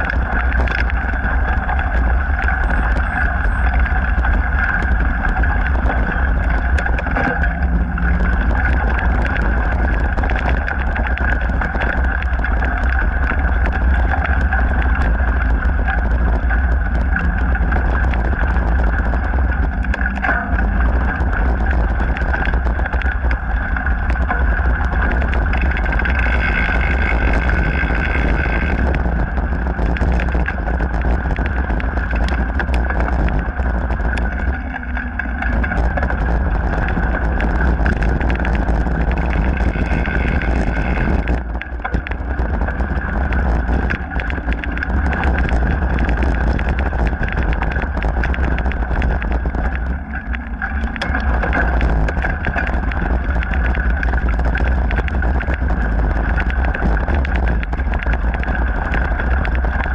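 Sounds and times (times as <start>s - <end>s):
bike tyres rumbling on gravel: 0.0s - 59.9s
clicks and rattles over stones: 0.0s - 59.9s.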